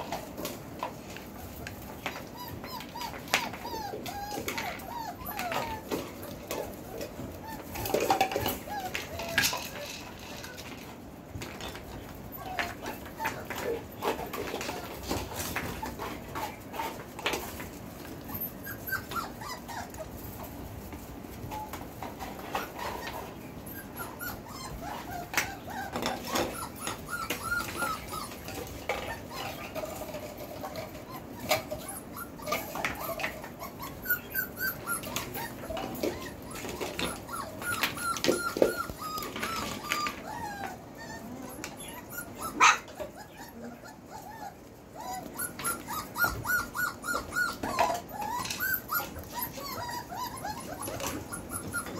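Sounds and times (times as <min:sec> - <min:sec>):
paws clicking on tile floor: 0:00.0 - 0:51.9
puppies whimpering and yipping: 0:00.0 - 0:51.9
puppy yelp: 0:01.2 - 0:10.8, 0:12.2 - 0:20.5, 0:21.4 - 0:51.9.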